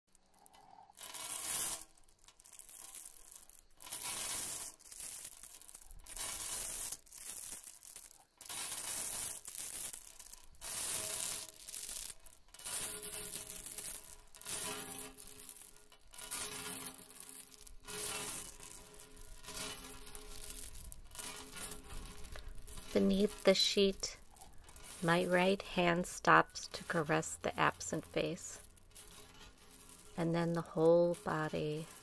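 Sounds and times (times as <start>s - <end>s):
harsh scraping hissing noise: 0.1s - 32.0s.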